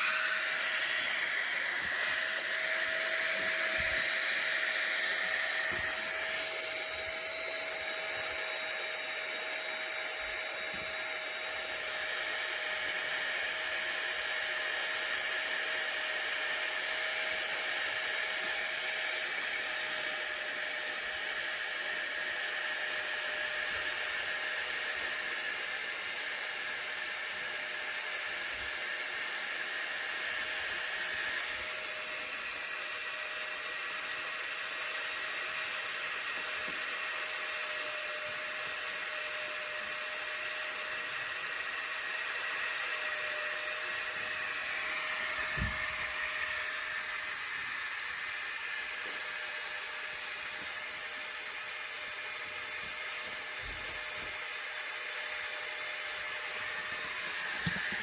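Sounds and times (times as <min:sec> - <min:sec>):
electric air pump whining: 0:00.0 - 0:58.0.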